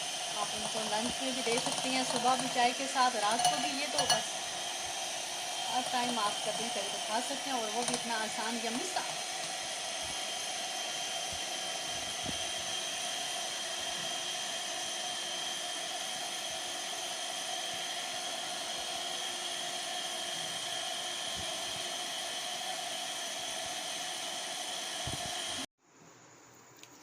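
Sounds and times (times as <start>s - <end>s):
electric mixer running: 0.0s - 25.7s.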